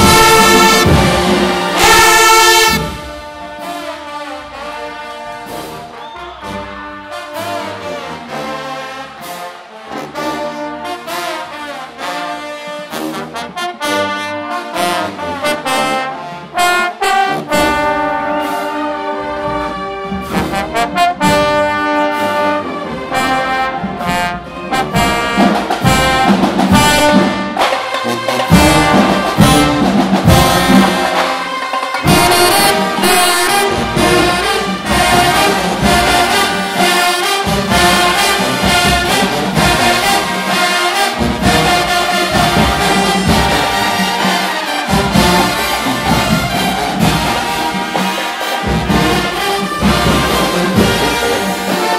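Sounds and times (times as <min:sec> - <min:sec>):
drums: 0:00.0 - 0:51.9
marching band brass playing: 0:00.0 - 0:51.9.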